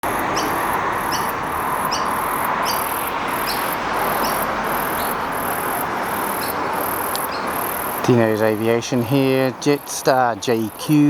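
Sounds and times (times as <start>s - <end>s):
insects chirping: 0.0s - 11.0s
background hiss: 1.1s - 11.0s.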